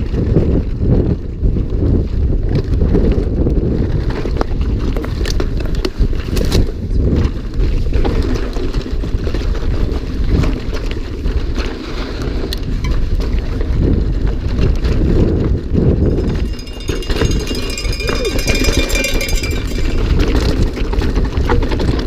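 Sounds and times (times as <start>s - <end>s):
wind buffeting microphone: 0.0s - 22.0s
bike knocking and rattling: 2.4s - 22.0s.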